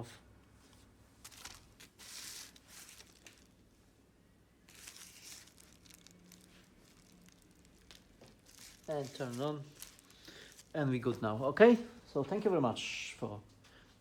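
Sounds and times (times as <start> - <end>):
faint rustling and crinkling: 0.5 - 14.0.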